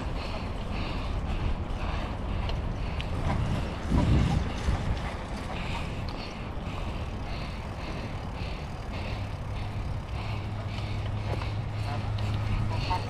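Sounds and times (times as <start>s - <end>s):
bicycle rolling on asphalt: 0.0s - 13.0s
wind rumble on microphone: 0.0s - 13.0s.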